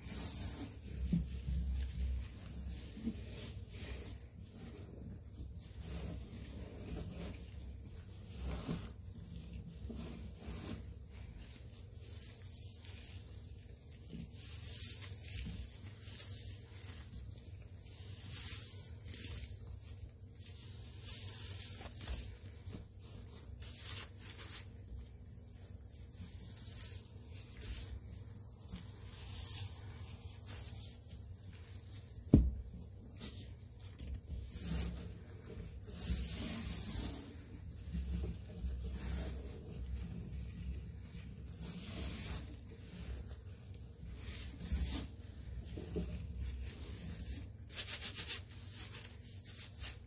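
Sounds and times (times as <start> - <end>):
sponges scraping in powder: 0.0 - 50.0.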